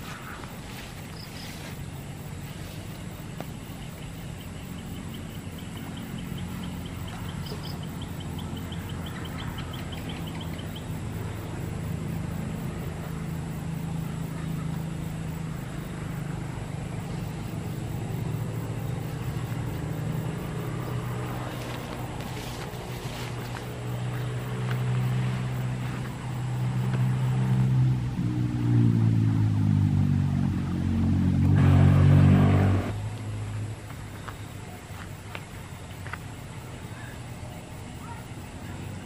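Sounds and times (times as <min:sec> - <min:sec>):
motor engine droning: 0:00.0 - 0:37.2.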